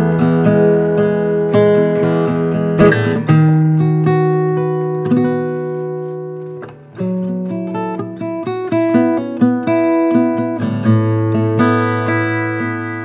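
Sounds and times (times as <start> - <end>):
acoustic guitar chords and notes: 0.0 - 13.0.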